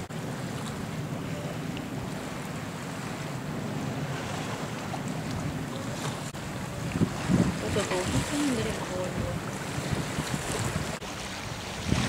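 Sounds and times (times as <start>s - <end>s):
water splashing past boat: 0.0s - 12.0s
wind on microphone: 0.0s - 12.0s.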